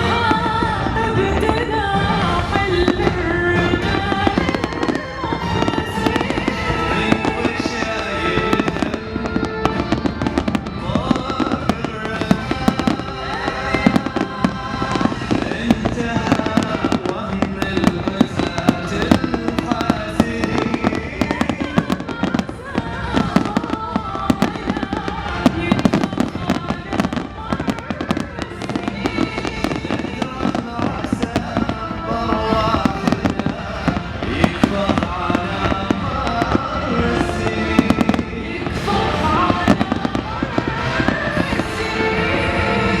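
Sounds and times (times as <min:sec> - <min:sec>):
fireworks bangs and crackles: 0:00.0 - 0:43.0
music playing: 0:00.0 - 0:43.0.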